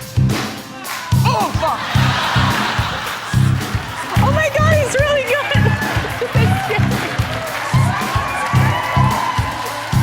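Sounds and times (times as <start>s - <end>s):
audience whooping and cheering: 1.1s - 10.0s.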